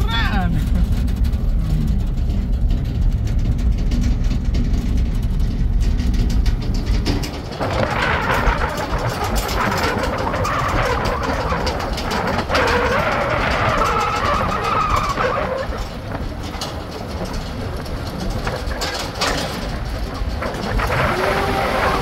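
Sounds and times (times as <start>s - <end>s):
car engine and road rumble: 0.0s - 22.0s
wind noise: 0.0s - 22.0s.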